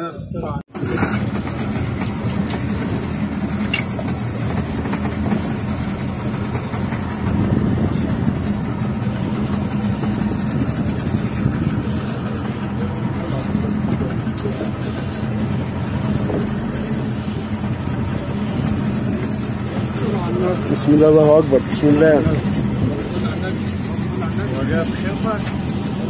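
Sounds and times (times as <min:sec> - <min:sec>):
boat engine humming: 0:00.2 - 0:26.0.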